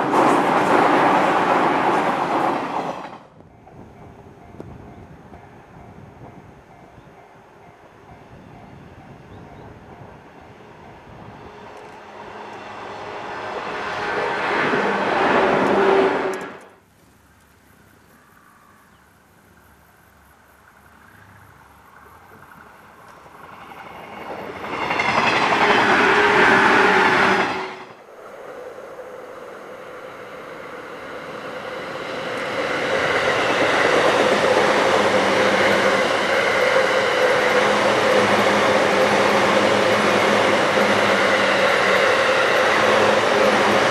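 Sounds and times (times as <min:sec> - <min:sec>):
electric trains passing: 0:00.0 - 0:16.9, 0:18.9 - 0:43.9
wheels rumbling on rails: 0:00.0 - 0:17.0, 0:20.6 - 0:43.9.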